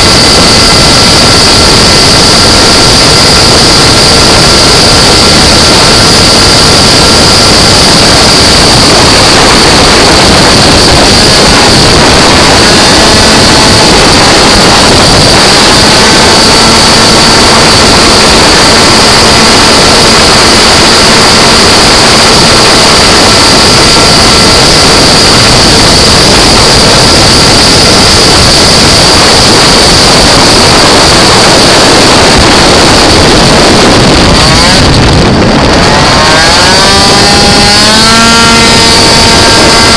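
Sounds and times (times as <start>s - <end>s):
rushing wind noise: 0.0s - 39.9s
scooter engine racing: 0.0s - 39.9s.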